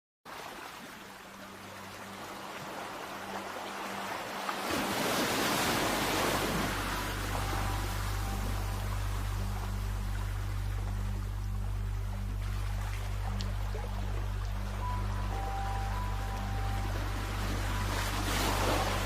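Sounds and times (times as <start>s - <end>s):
sea waves breaking: 0.3s - 19.0s
low steady hum: 0.8s - 19.0s.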